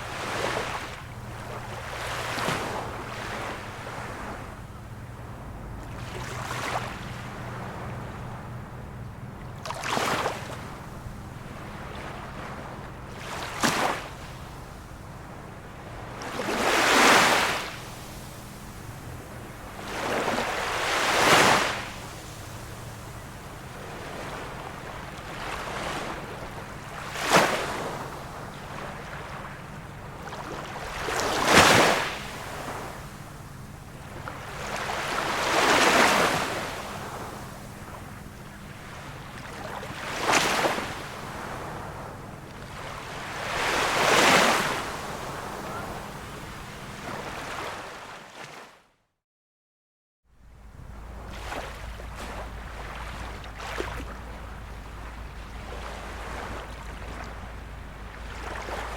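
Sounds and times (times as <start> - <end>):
small waves lapping: 0.0 - 48.8, 50.5 - 58.9.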